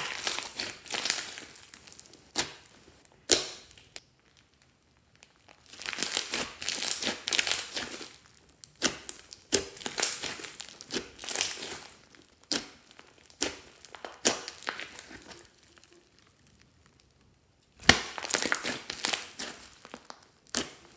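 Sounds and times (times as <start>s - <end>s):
slime squishing and crackling: 0.0s - 20.9s.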